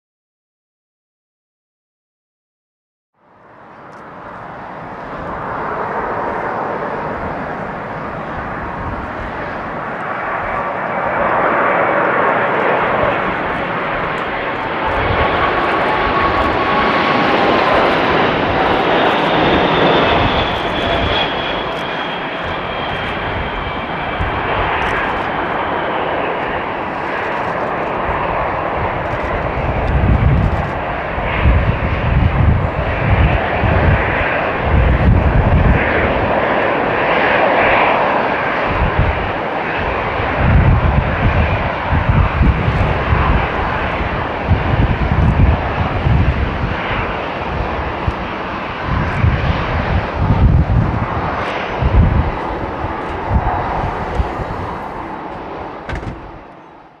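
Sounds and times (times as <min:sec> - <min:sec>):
jet engine roar with whine: 0:03.2 - 0:57.0.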